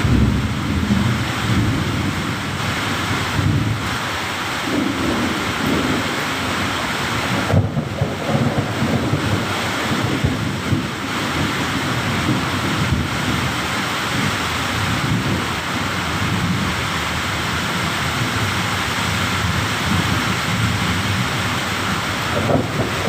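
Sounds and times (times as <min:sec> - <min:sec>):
heavy rain falling: 0:00.0 - 0:23.0
low rumbling thunder: 0:00.0 - 0:23.0.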